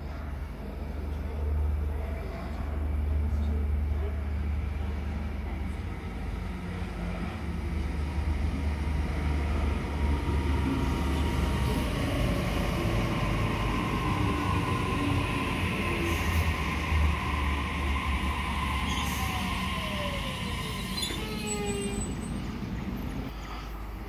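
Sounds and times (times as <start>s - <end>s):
train wheels rumbling on rails: 1.4s - 24.0s.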